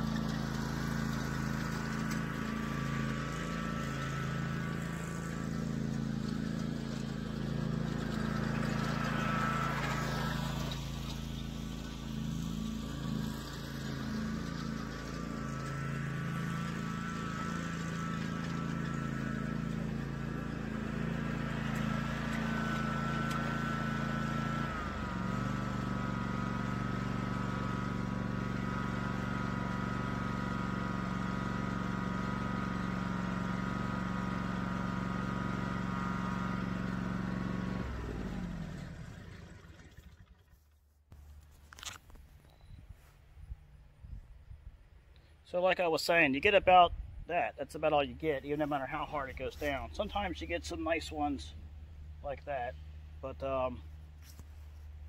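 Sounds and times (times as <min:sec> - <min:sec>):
riding mower engine running: 0:00.0 - 0:43.9, 0:44.9 - 0:55.0.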